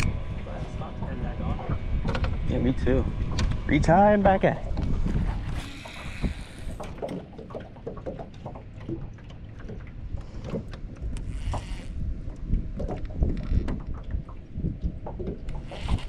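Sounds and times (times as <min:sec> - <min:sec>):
wind on microphone: 0:00.0 - 0:07.0, 0:10.0 - 0:16.0
water lapping against boat hull: 0:00.0 - 0:16.0.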